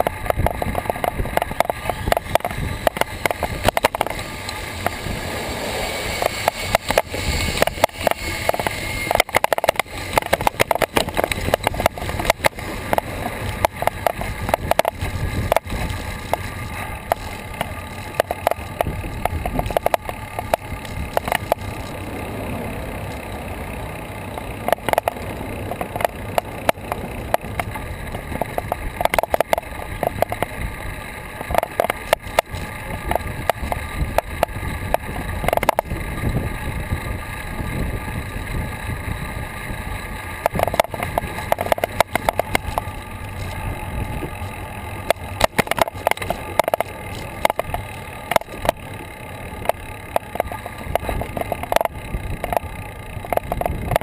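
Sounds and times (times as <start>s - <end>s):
bike knocks and rattles: 0.0s - 54.0s
tyres and wind rushing: 0.0s - 54.0s.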